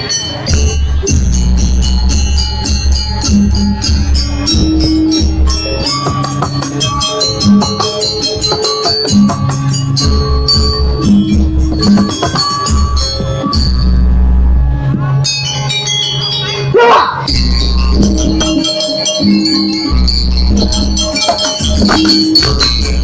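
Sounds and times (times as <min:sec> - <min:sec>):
gamelan music: 0:00.0 - 0:23.0.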